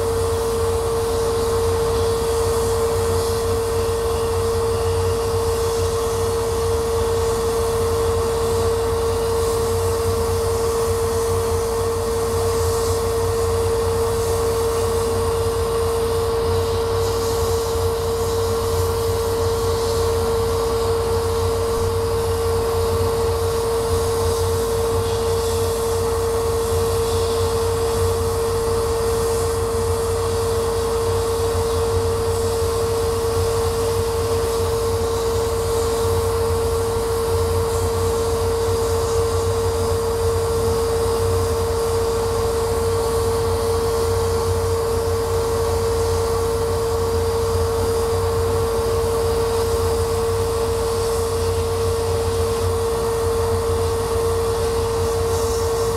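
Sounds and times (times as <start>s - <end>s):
laser cutter hum: 0.0s - 55.9s
airy hiss: 0.1s - 55.9s.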